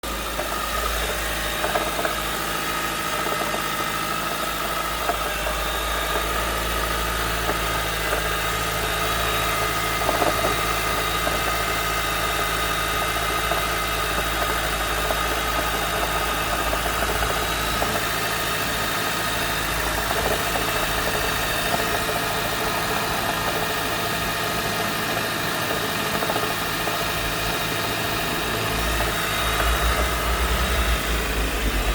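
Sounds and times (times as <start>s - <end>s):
car engine running: 0.0s - 31.9s
engine knocking and rattling: 0.0s - 31.9s.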